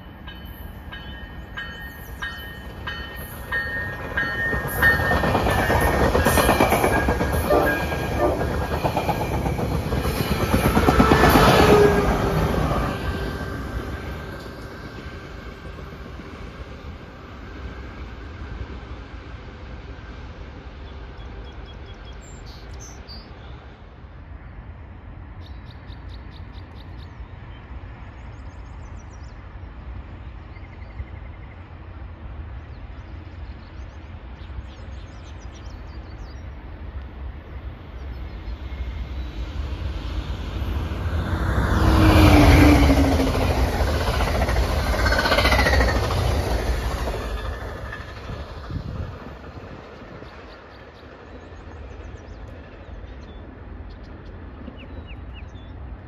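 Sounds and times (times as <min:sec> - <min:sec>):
distant train rumble: 0:00.0 - 0:56.0
train passing at speed: 0:00.0 - 0:56.0.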